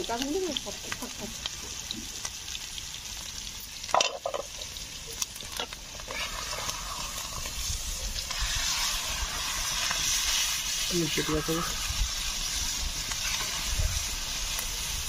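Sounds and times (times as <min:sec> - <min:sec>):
fish roe sizzling in oil: 0:00.0 - 0:15.0.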